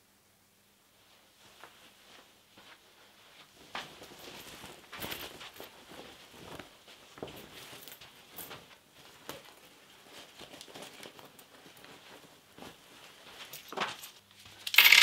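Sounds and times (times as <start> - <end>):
cloth rustling: 0.9 - 14.5.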